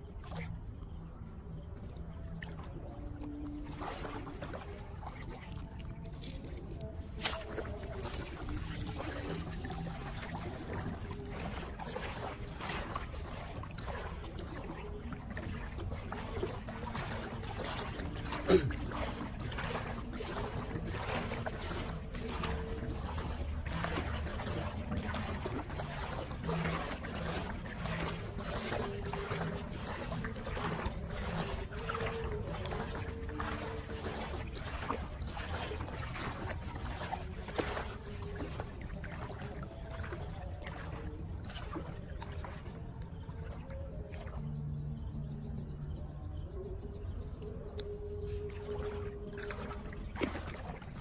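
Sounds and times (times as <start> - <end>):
small splashes: 0.0 - 51.0
water trickling and lapping: 0.0 - 51.0.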